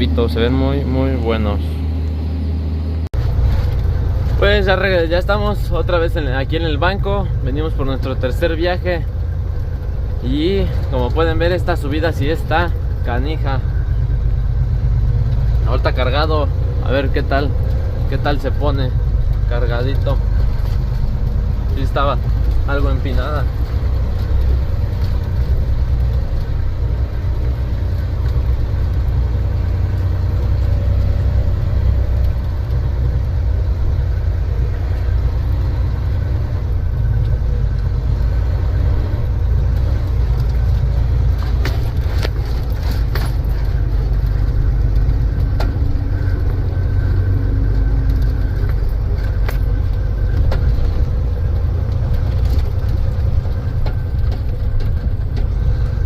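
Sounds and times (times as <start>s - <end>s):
diesel truck engine droning: 0.0s - 56.0s
sharp clicks and rattles: 3.2s - 56.0s.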